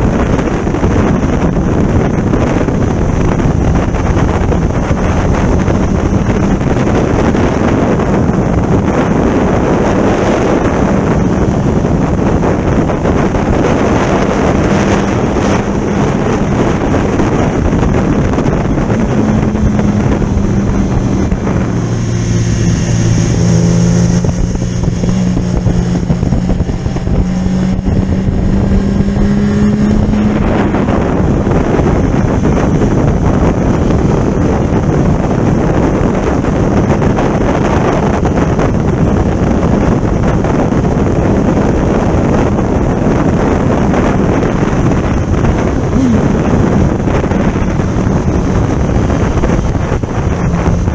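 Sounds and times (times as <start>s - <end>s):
motorcycle engine: 0.0s - 50.9s
wind buffeting microphone: 0.0s - 50.9s.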